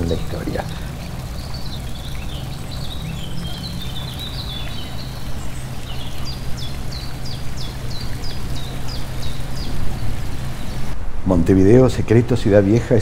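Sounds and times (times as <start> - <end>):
small birds chirping: 0.0 - 11.0
low background hum: 0.0 - 13.0.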